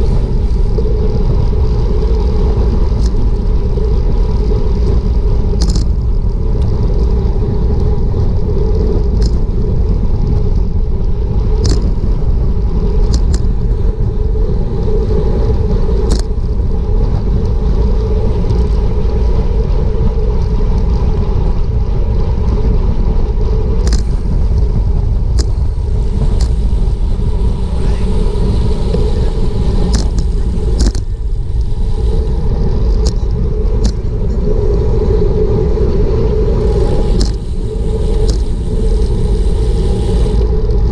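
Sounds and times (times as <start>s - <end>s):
road rumble: 0.0s - 40.9s
wind rushing over microphone: 0.0s - 40.9s.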